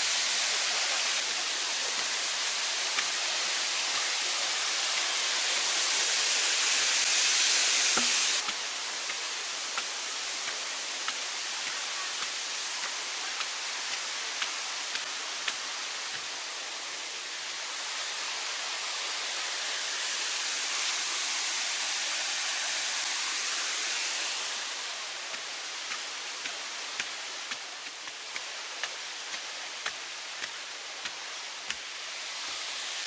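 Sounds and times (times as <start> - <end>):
mountain stream and waterfall rushing: 0.0 - 33.0.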